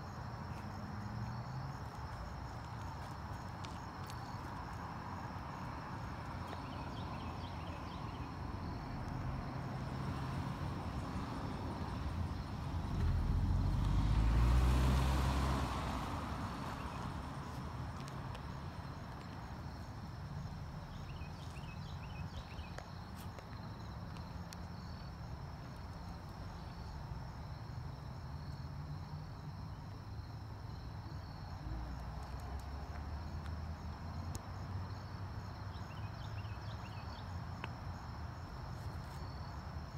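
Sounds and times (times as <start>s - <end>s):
car passing: 0.0s - 39.9s
insects chirping: 0.0s - 39.9s.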